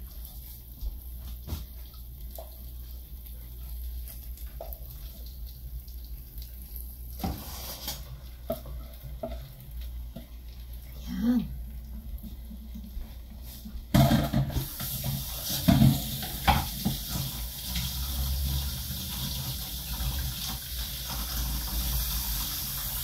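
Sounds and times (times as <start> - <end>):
meat sizzling in sauce: 0.0 - 23.0.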